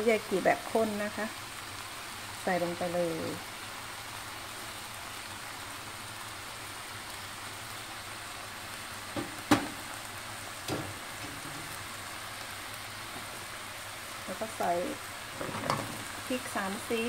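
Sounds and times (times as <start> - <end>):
chicken sizzling in a wok: 0.0 - 17.0.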